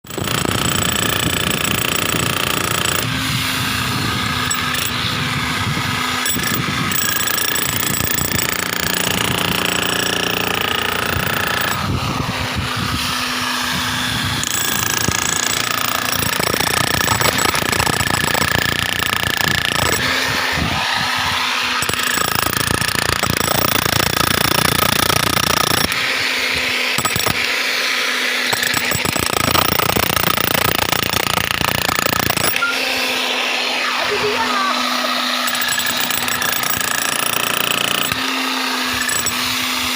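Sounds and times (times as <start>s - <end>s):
hammer drill boring concrete: 0.0s - 39.9s.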